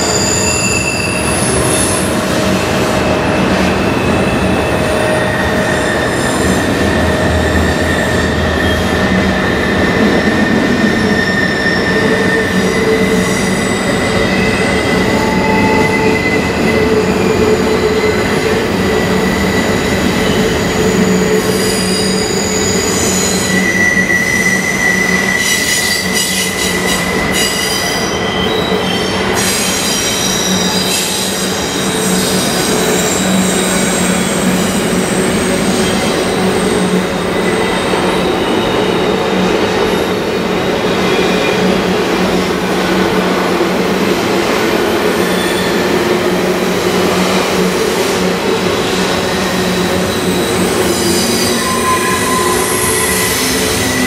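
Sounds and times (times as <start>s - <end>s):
freight train rolling by: 0.0s - 54.0s
steel wheels squealing on rail: 0.0s - 54.0s.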